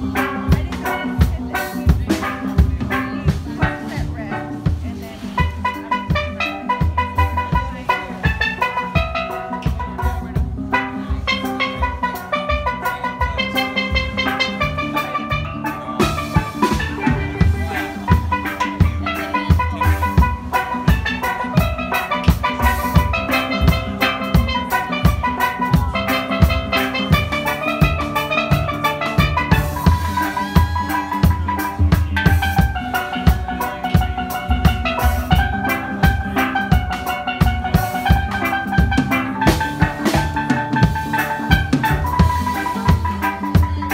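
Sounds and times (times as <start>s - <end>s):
steel drum band playing: 0.0s - 43.9s.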